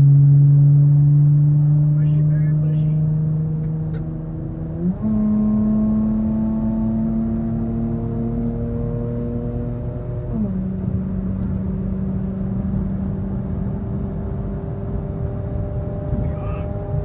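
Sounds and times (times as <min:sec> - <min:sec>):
car engine drone inside cabin: 0:00.0 - 0:17.0
road noise rumble: 0:00.0 - 0:17.0.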